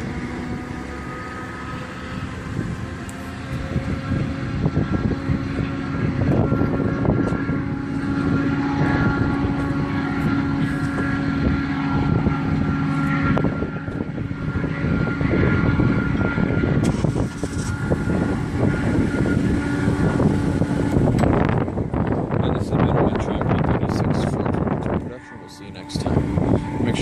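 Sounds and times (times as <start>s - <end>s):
diesel locomotive engine tone: 0.0s - 27.0s.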